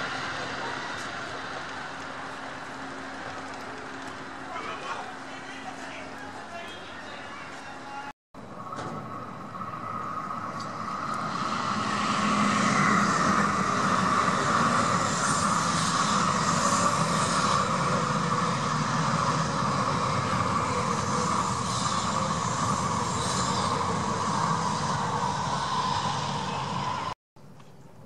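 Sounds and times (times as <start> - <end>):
high-speed train passing: 0.0 - 27.2.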